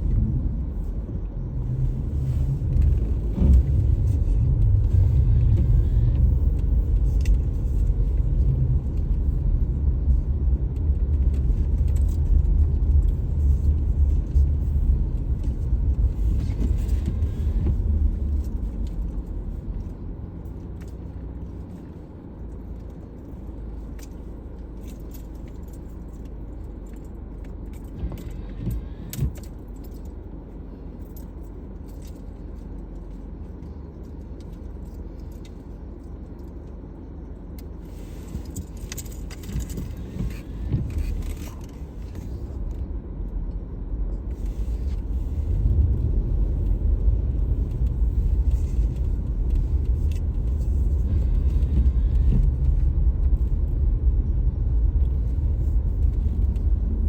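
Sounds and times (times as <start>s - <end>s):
car road and engine rumble: 0.0s - 57.0s
light rattles and clicks: 1.8s - 54.0s.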